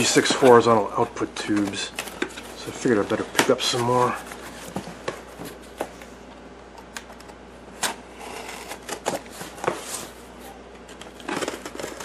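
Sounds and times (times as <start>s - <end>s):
cardboard rustling and scraping: 0.0s - 6.0s, 7.8s - 12.0s.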